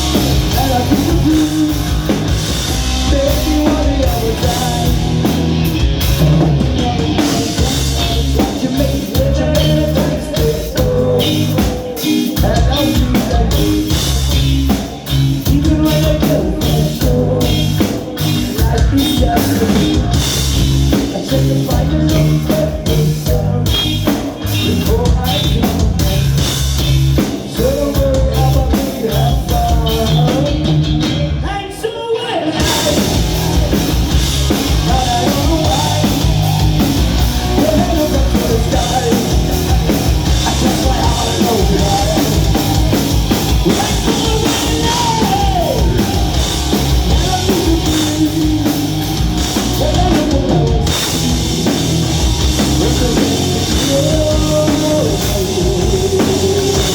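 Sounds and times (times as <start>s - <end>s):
person singing: 0.0s - 5.4s, 6.1s - 51.1s, 52.6s - 56.9s
drum kit: 0.0s - 31.8s, 32.4s - 56.9s
rock music: 0.0s - 56.9s.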